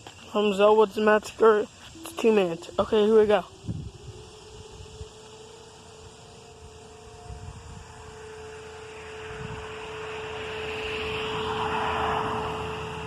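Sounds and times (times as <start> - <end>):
distant warning siren: 0.0 - 13.0
car passing: 0.7 - 13.0.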